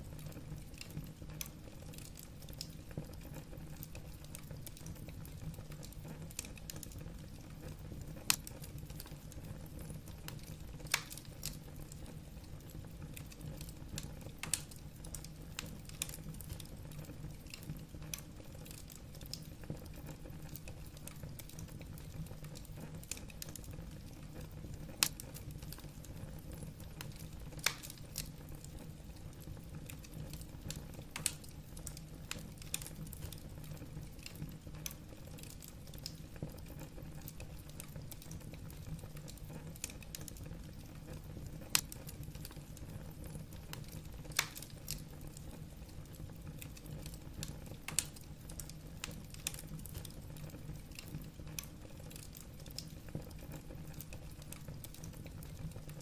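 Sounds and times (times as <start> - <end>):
burning logs crackling and popping: 0.0 - 56.0
low rumble of flame: 0.0 - 56.0.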